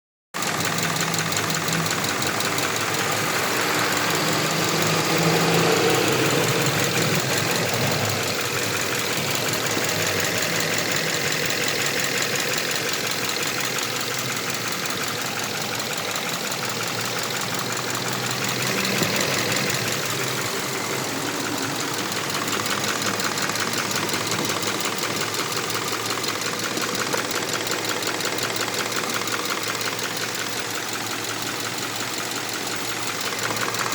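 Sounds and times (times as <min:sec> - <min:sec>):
car engine running: 0:00.4 - 0:33.9
fast even engine clicking: 0:00.4 - 0:33.9.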